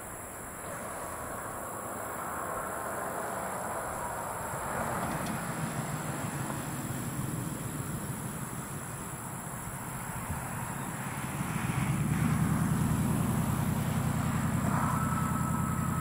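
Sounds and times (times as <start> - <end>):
freight train rumble: 0.0 - 16.0
insects chirping: 0.0 - 16.0.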